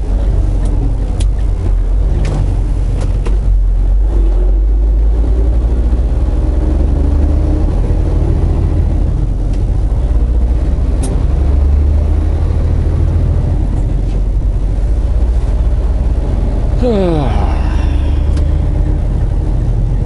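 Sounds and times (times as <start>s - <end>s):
diesel truck engine running: 0.0s - 20.0s
road rumble: 0.0s - 20.0s.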